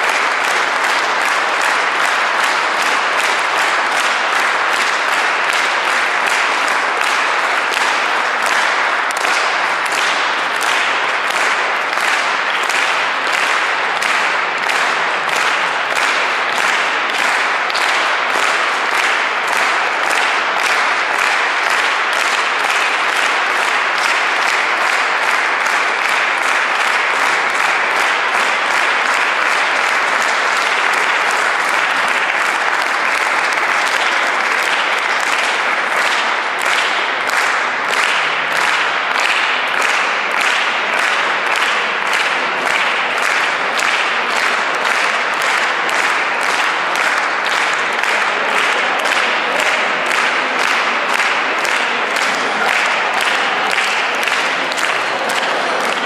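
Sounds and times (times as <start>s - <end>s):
audience clapping in rhythm: 0.0s - 56.0s.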